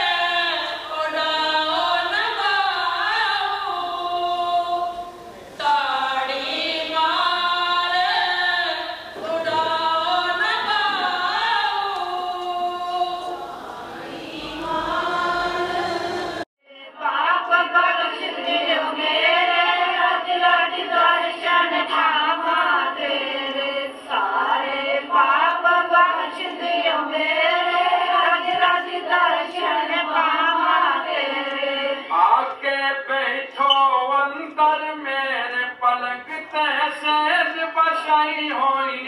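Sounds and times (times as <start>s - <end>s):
voices singing a hymn: 0.0s - 34.0s.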